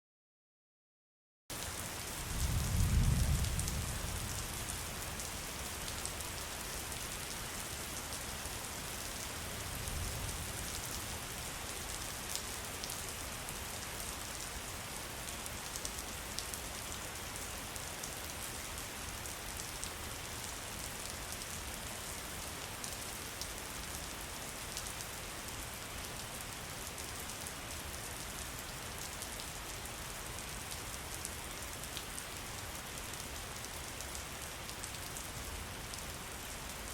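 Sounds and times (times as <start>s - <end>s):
rain falling: 1.5s - 36.9s.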